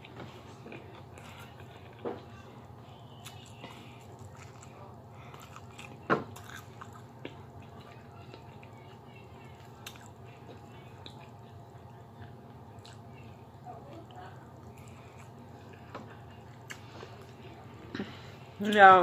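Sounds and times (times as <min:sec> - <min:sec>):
person chewing food: 0:00.0 - 0:18.6
steady low hum: 0:00.0 - 0:19.0.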